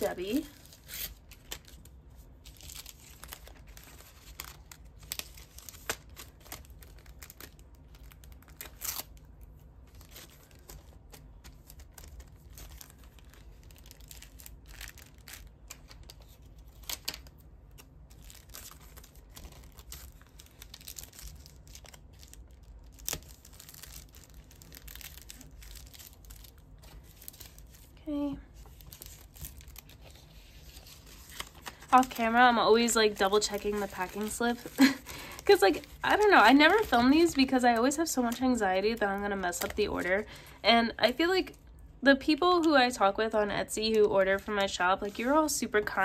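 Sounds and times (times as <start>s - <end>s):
plastic sleeve and paper crinkling: 0.0s - 46.0s.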